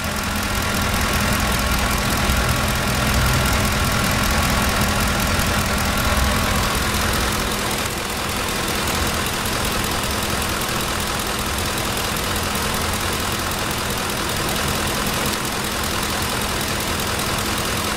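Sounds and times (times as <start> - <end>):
pickup engine idling: 0.0 - 17.9.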